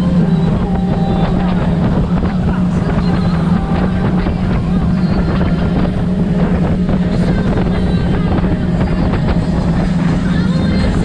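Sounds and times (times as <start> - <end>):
speedboat engines droning: 0.0 - 11.0
wind buffeting microphone: 0.0 - 11.0.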